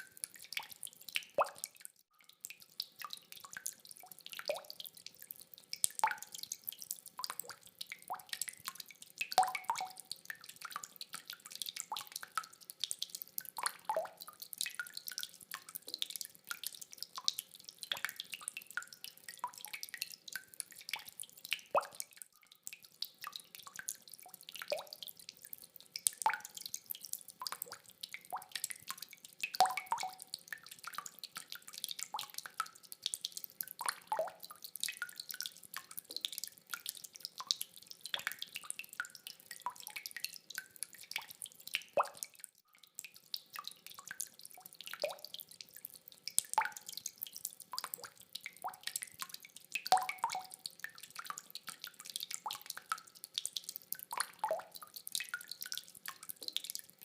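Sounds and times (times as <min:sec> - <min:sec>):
water drops dripping: 0:00.0 - 0:57.0.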